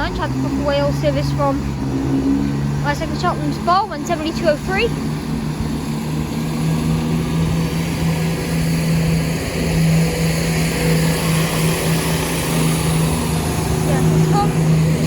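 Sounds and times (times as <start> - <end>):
diesel train engines humming: 0.0 - 15.0.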